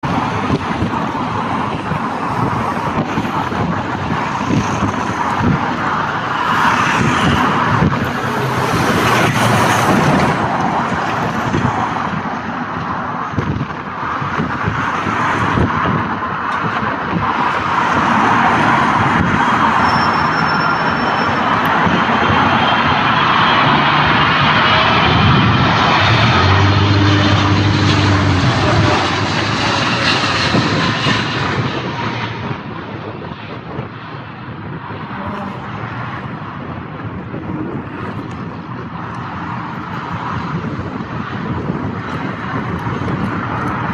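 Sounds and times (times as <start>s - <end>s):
jet engines rushing: 0.0s - 43.9s.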